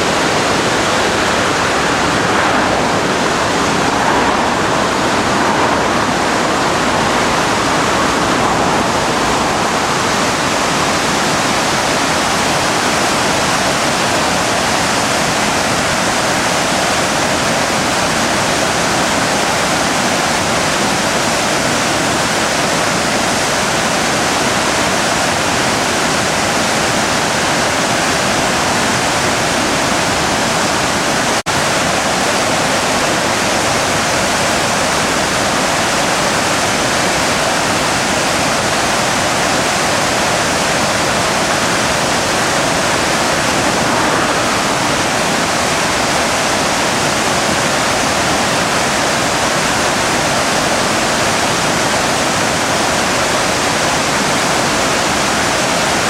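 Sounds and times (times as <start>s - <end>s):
loud rush of flood water: 0.0s - 56.0s.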